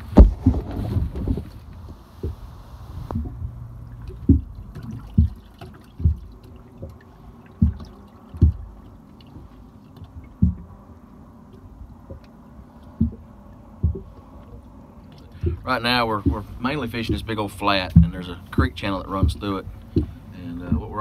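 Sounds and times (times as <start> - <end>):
low wash of water: 0.0 - 21.0
waves slapping boat hull: 0.0 - 21.0.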